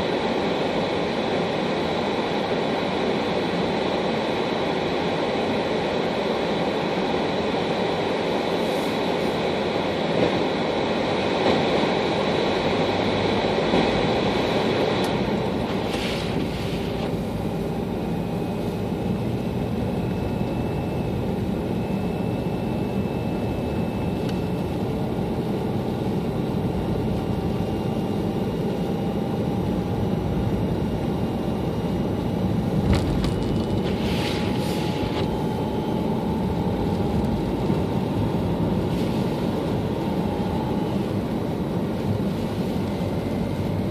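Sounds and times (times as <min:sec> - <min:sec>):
car engine and road noise: 0:00.0 - 0:43.9
faint rising whine: 0:00.0 - 0:43.9.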